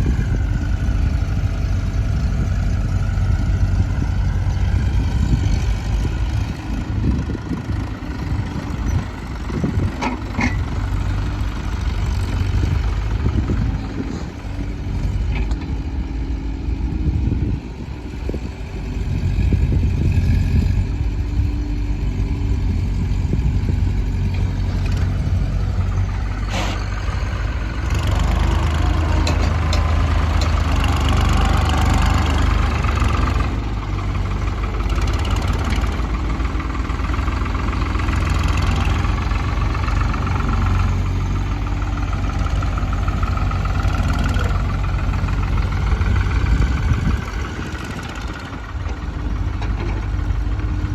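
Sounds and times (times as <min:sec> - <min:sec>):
diesel engines running: 0:00.0 - 0:50.9.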